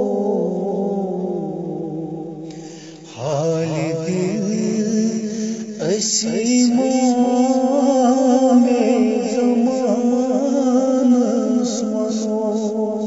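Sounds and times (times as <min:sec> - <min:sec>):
man singing ornamented phrases: 0:00.0 - 0:13.0.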